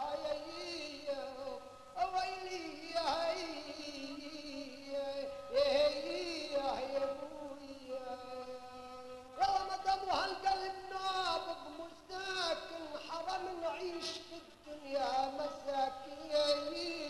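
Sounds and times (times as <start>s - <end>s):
person singing folk song: 0.0s - 17.0s.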